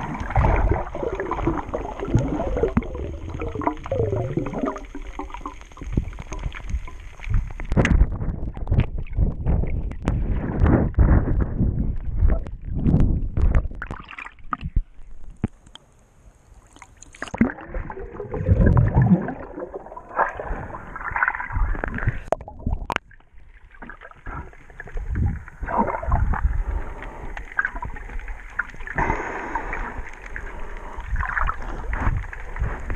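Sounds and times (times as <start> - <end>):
muffled underwater sloshing: 0.0 - 15.4, 16.7 - 32.9.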